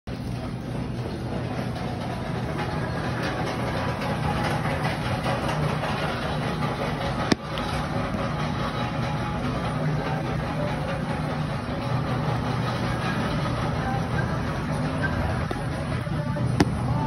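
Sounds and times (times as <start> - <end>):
low mechanical hum: 0.1 - 17.0.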